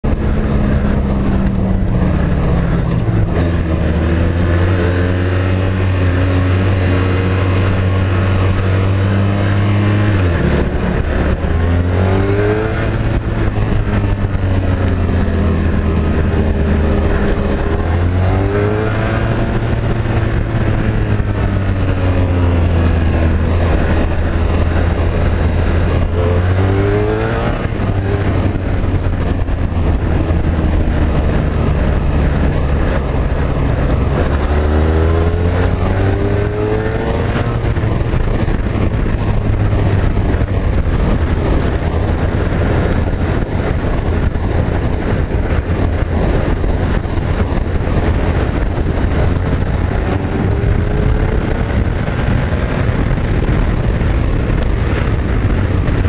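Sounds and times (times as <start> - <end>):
motorcycle engine at speed: 0.0 - 56.0.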